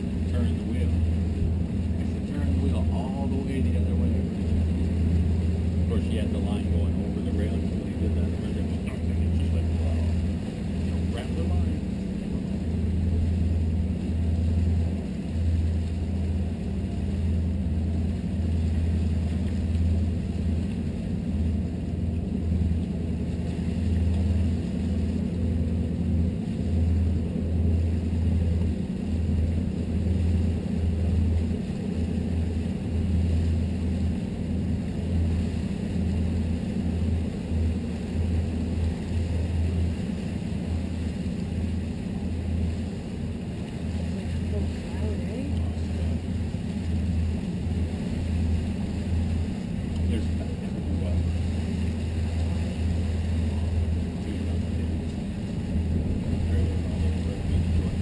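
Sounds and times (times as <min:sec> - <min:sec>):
boat engines droning: 0:00.0 - 0:58.0
uneven rumble: 0:00.0 - 0:58.0.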